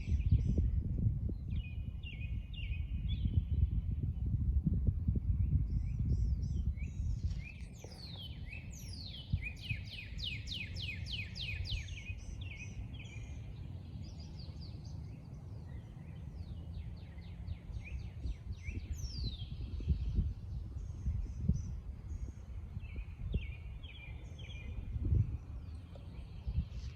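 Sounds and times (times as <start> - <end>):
songbirds singing: 0.0 - 4.2, 5.1 - 26.9.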